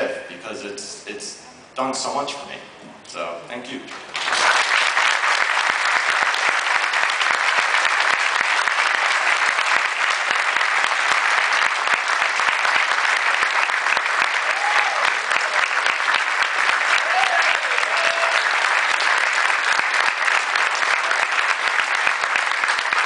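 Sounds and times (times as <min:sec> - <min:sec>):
audience applauding: 0:03.9 - 0:23.0.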